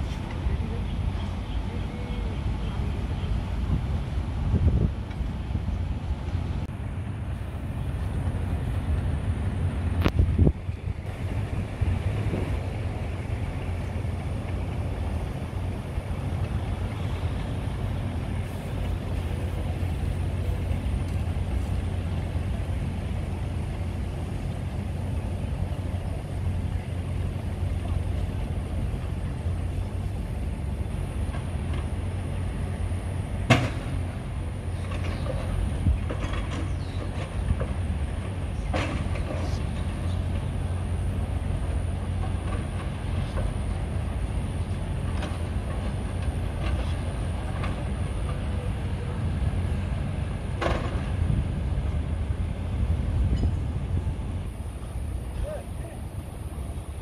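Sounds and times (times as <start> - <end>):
low-pitched outdoor rumble: 0.0 - 57.0.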